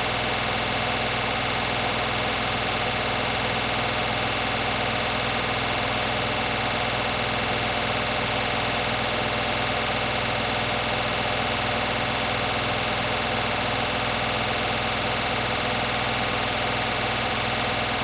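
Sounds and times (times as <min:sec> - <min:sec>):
washing machine spinning: 0:00.1 - 0:18.0.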